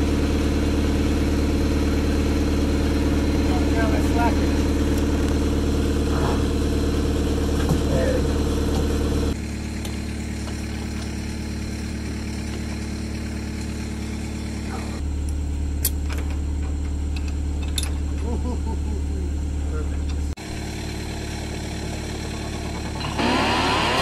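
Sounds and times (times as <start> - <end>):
heavy machine engine idling: 0.0 - 24.0.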